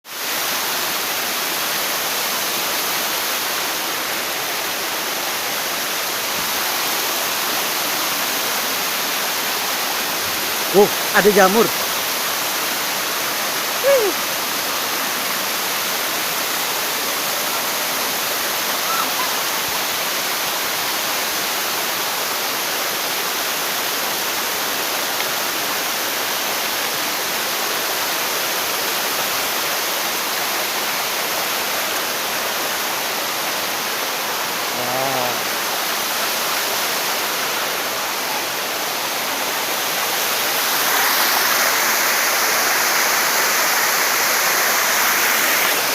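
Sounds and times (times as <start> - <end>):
waterfall rushing: 0.1 - 45.9.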